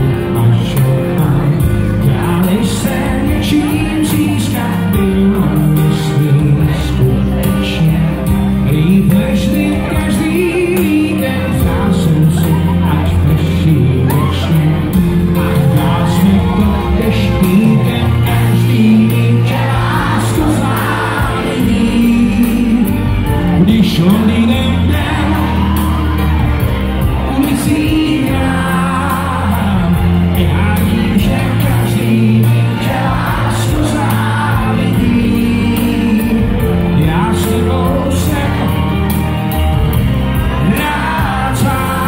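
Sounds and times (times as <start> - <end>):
amplified musical accompaniment: 0.0 - 42.0
man singing into a microphone: 0.0 - 42.0.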